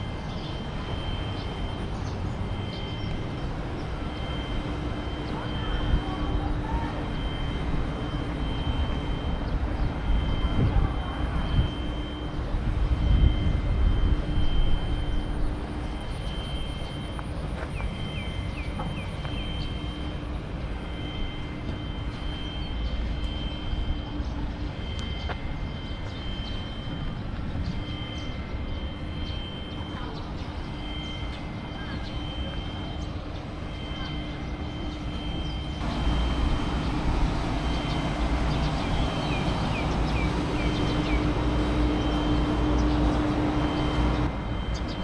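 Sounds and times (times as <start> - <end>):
faint steady whine: 0.0 - 45.0
outdoor low rumble: 0.0 - 45.0.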